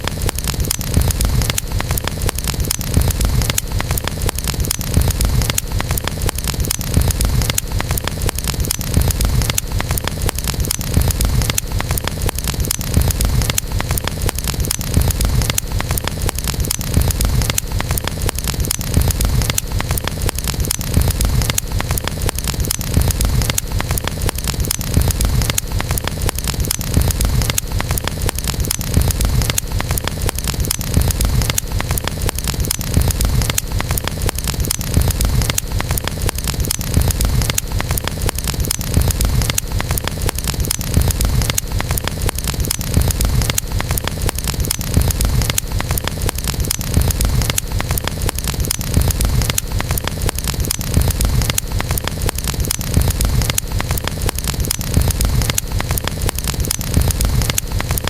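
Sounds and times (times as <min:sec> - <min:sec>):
low rumble of flames: 0:00.0 - 0:58.0
wood crackling in fire: 0:00.0 - 0:58.0.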